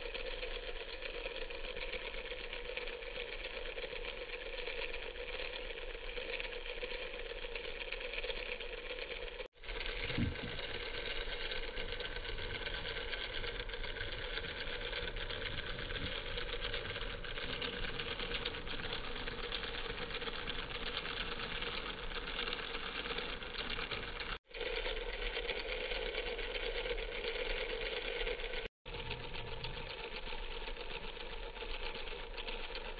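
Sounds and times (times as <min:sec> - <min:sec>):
wet grinder motor buzzing rattle: 0:00.0 - 0:32.9.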